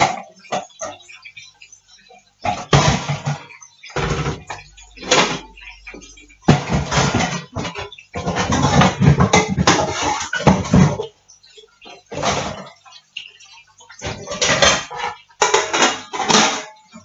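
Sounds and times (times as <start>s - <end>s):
kitchenware clattering: 0.0s - 1.7s, 2.4s - 17.0s.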